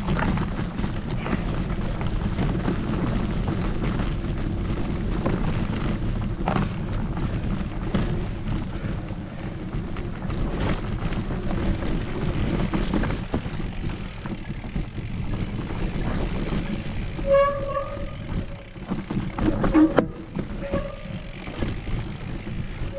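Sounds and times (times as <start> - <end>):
bike knocking and rattling: 0.0 - 22.9
bike tyres rumbling on dirt: 0.0 - 22.9
wind rush on microphone: 0.0 - 22.9.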